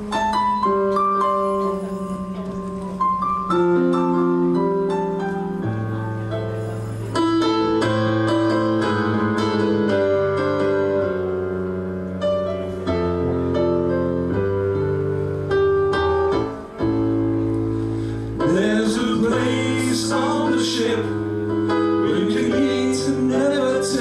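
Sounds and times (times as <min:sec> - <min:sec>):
keyboard chords and melody: 0:00.0 - 0:24.0.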